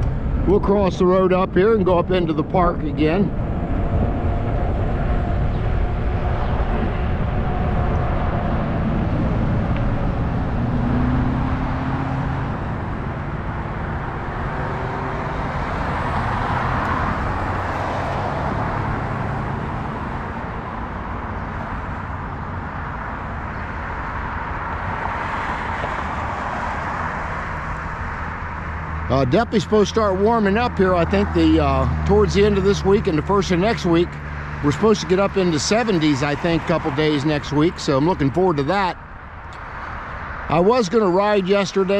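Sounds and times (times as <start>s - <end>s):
wind rumbling on microphone: 0.0s - 40.8s
tyres rolling on road: 0.0s - 41.9s.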